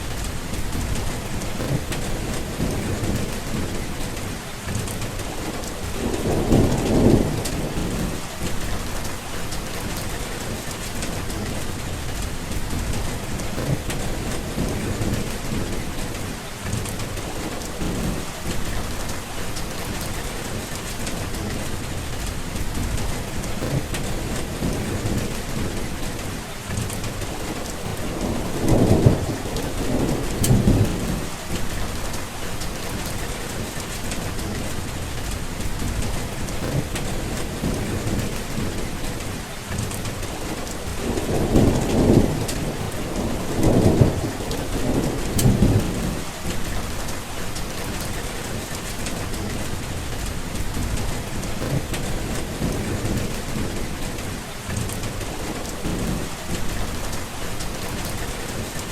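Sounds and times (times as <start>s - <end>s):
steady rain falling: 0.0s - 58.9s
thunder rumbling: 0.0s - 58.9s.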